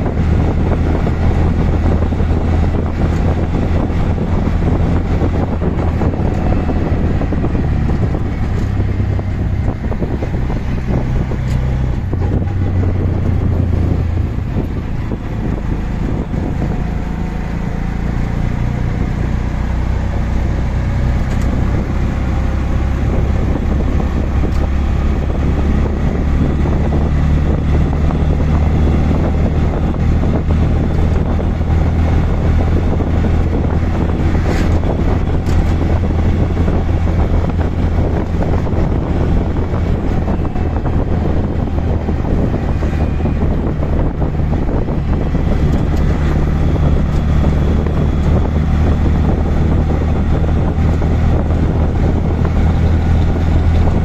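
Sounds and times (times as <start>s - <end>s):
rickshaw engine droning: 0.0s - 54.0s
wind buffeting microphone: 0.0s - 54.0s.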